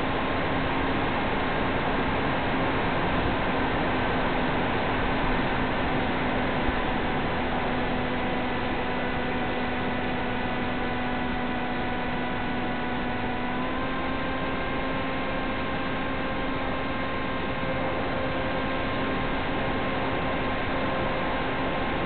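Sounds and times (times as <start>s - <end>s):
model plane motor whine: 2.6s - 22.0s.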